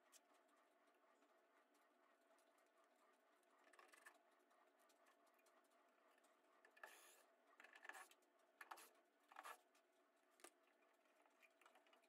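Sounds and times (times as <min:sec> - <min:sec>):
faint handling clicks and rustles: 0:00.0 - 0:12.0.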